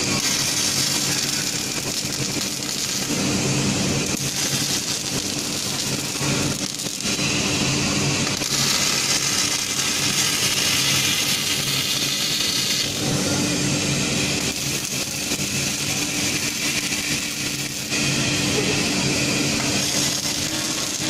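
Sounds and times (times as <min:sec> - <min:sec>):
welding arc striking: 0:00.0 - 0:21.0
welding machine hum and hiss: 0:00.0 - 0:21.0.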